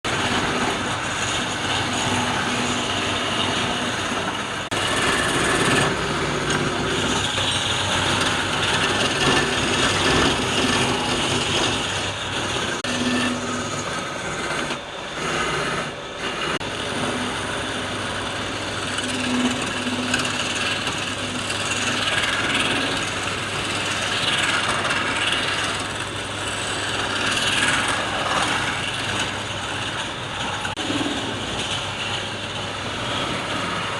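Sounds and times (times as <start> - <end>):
tool cutting spinning wood: 0.0 - 33.9
wood lathe humming: 0.0 - 33.9.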